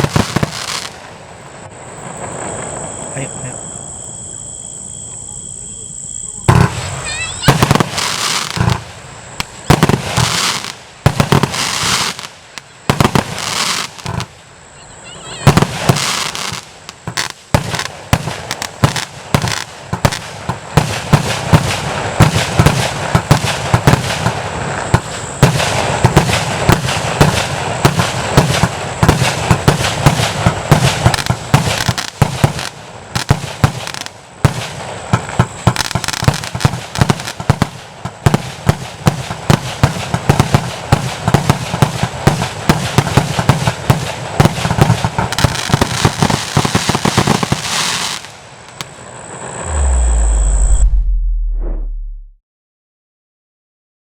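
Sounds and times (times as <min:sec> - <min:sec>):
fireworks firing sharp reports: 0:00.0 - 0:51.1.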